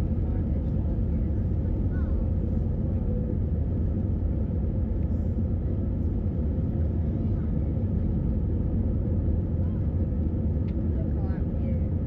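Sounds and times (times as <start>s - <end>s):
vehicle rumble from inside: 0.0s - 12.0s.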